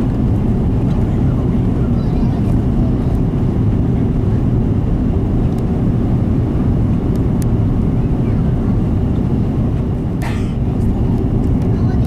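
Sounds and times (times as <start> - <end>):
jet engines and airflow rumble: 0.0 - 12.0.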